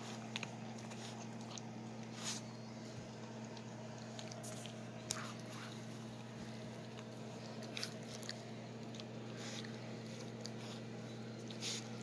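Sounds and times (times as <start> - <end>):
low hum: 0.0 - 12.0
puppy chewing a toy: 0.0 - 12.0.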